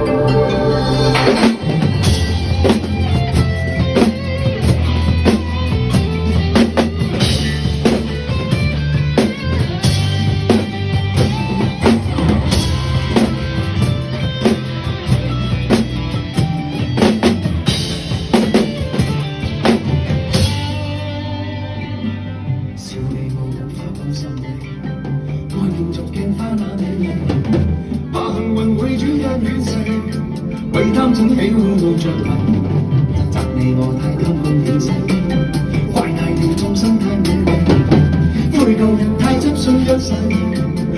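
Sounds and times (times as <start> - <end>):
recorded pop backing track: 0.0 - 40.9.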